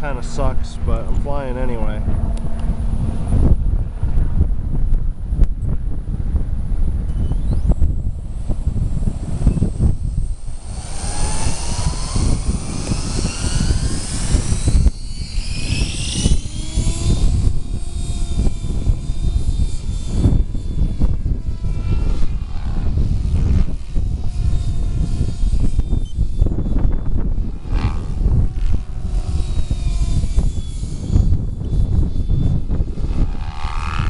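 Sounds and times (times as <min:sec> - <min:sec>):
rc helicopter motor whine: 0:00.0 - 0:34.0
wind buffeting microphone: 0:00.0 - 0:34.0.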